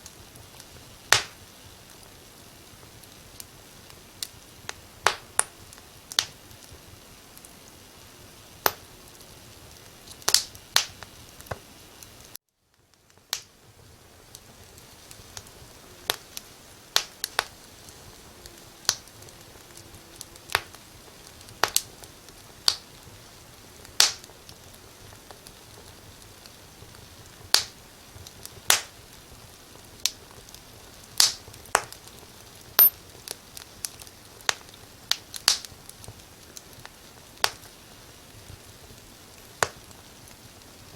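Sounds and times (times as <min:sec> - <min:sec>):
firewood crackling and popping: 0:00.0 - 0:40.9
hiss of flames: 0:00.0 - 0:40.9.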